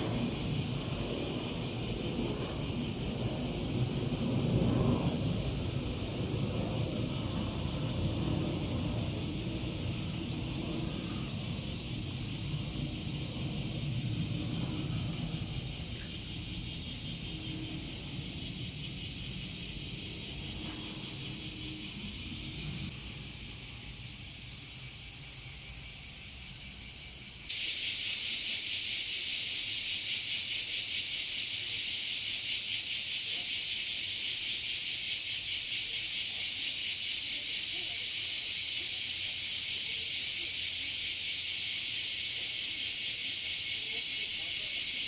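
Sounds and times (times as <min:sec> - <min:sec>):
cicadas buzzing: 0:00.0 - 0:45.0.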